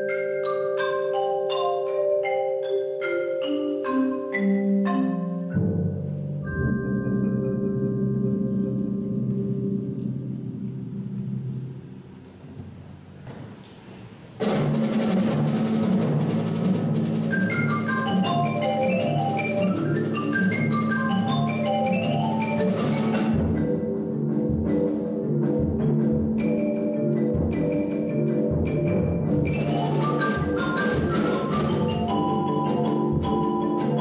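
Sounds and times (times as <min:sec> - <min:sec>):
marimbas playing fast notes: 0:00.0 - 0:12.3, 0:14.4 - 0:34.0.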